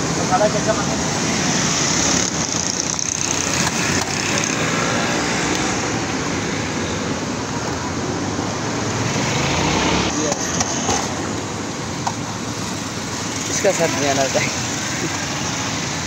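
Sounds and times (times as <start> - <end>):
busy road traffic: 0.0 - 16.0.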